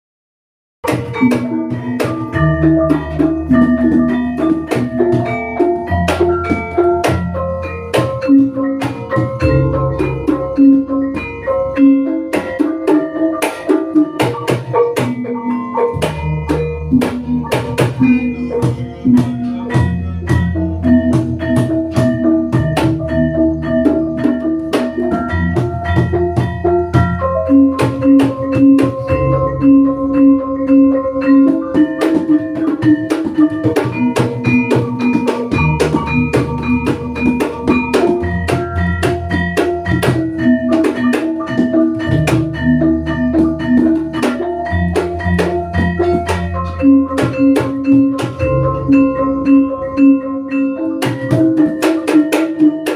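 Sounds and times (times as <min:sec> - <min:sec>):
gamelan metal keys and gongs: 0:00.8 - 0:52.9
steady drumming: 0:00.8 - 0:52.9.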